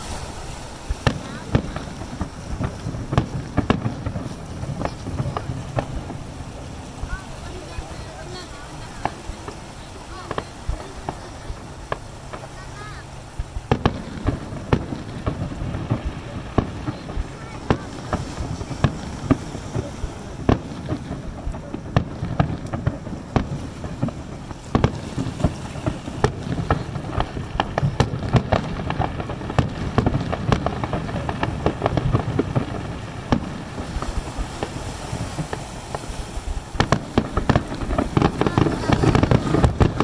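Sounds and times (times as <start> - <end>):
fireworks bangs: 0.0 - 40.0
low rumble: 0.0 - 40.0.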